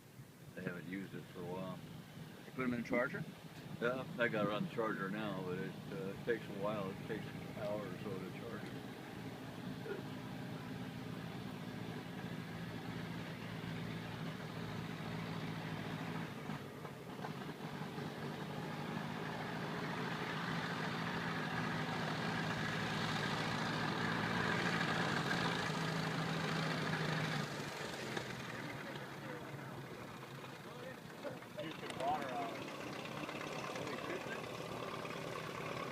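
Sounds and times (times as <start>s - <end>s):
old truck engine driving: 0.0s - 35.9s.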